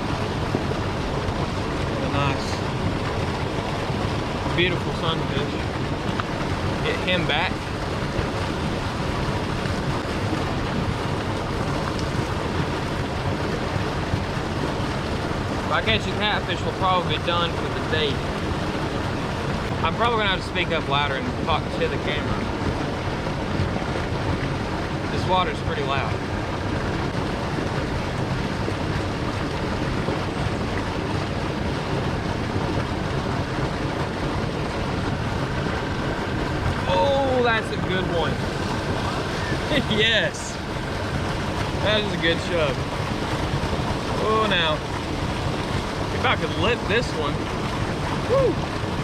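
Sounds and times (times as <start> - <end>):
water rushing over spillway: 0.0 - 49.0.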